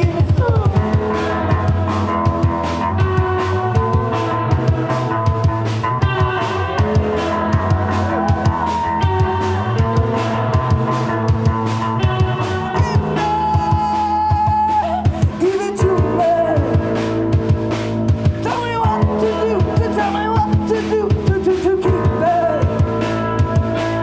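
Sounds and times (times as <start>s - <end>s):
drum kit beat: 0.0s - 24.0s
electric bass: 0.0s - 24.0s
electric guitar: 0.0s - 24.0s.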